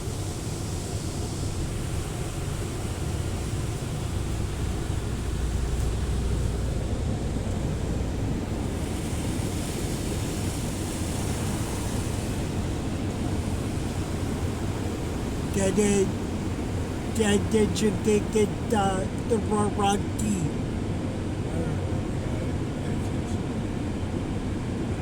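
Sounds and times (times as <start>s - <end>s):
car wash spraying water: 0.0s - 21.2s.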